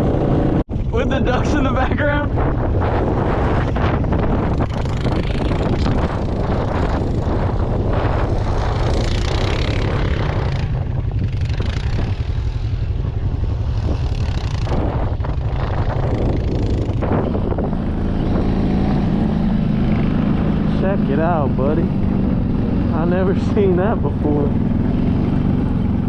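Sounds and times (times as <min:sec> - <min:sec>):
vehicle engine running: 0:00.0 - 0:26.0
wind buffeting microphone: 0:00.0 - 0:26.0.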